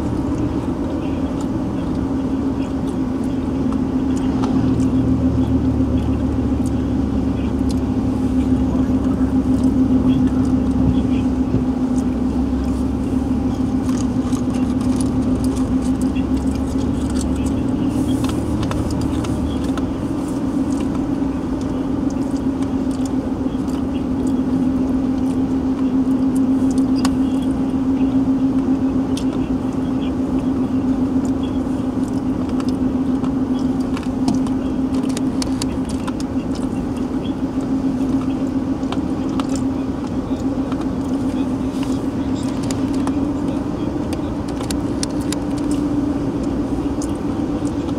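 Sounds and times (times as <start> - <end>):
car engine and tyre noise: 0.0 - 47.9.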